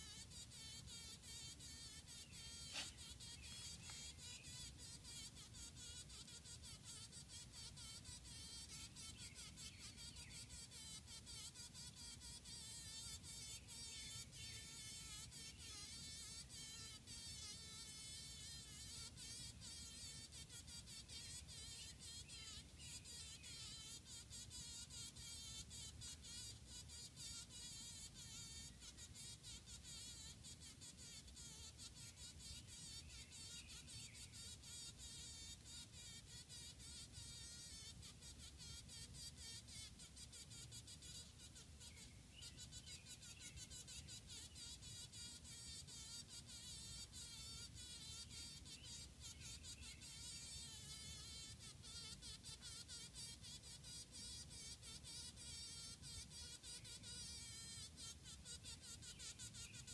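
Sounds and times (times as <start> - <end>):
bee buzzing rapidly: 0.0 - 59.9.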